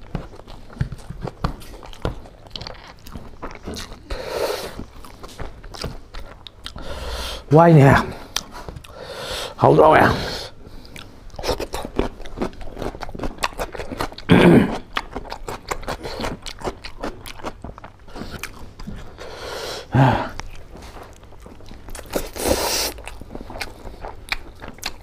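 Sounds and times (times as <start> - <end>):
person chewing and crunching food: 0.0 - 25.0.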